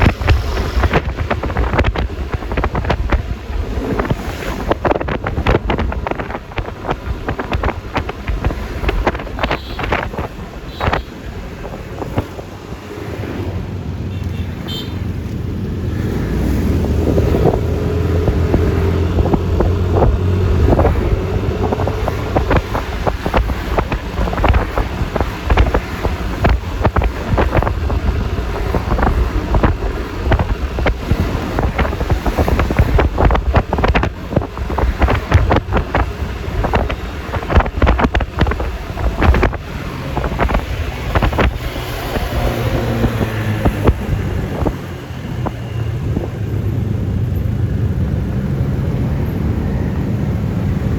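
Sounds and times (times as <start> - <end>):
road noise: 0.0 - 50.9
scooter engine rumbling: 0.0 - 50.9
wind buffeting microphone: 0.0 - 50.9.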